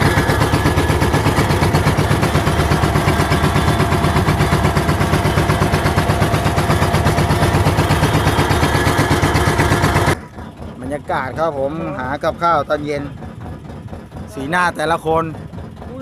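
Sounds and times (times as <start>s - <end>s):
boat engine pulsing: 0.0s - 16.0s.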